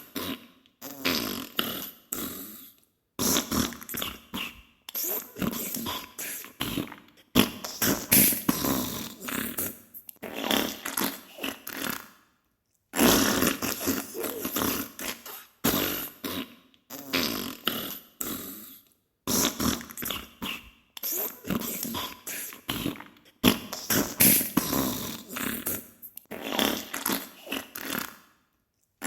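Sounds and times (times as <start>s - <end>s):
sputtering fart bursts: 0.0s - 2.0s, 3.2s - 12.1s, 12.9s - 18.0s, 19.3s - 28.2s.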